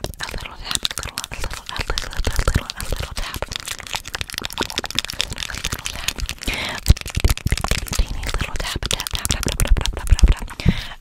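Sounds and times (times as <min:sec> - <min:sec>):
clicks and taps at microphone: 0:00.0 - 0:10.9.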